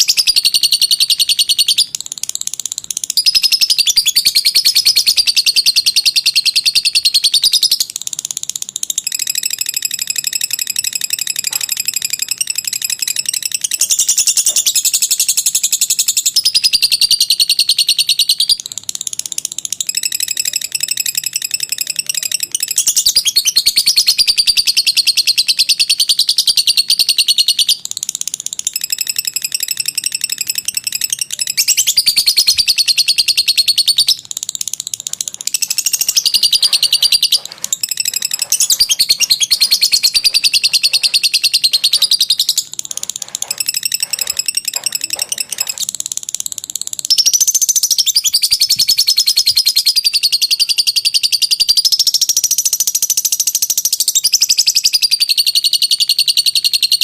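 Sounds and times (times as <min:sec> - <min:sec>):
lovebird high-pitched chattering: 0:00.0 - 0:57.0.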